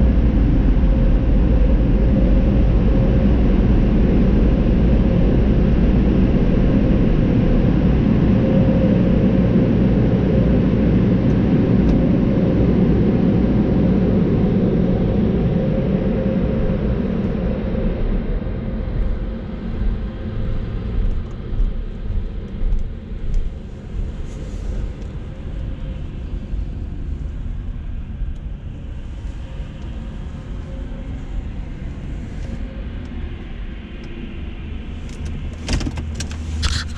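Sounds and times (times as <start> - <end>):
engine and tyre rumble: 0.0 - 36.9.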